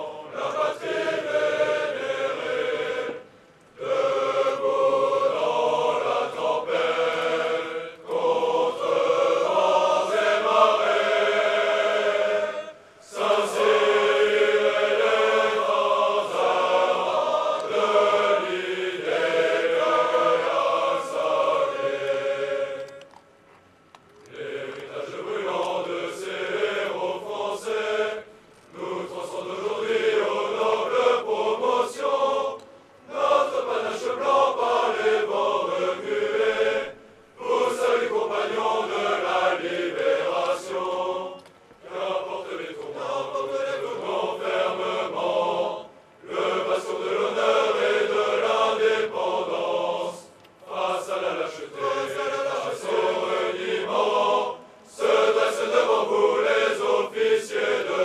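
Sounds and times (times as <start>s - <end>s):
choir singing slow chant-like song: 0.0s - 23.2s, 24.2s - 58.0s.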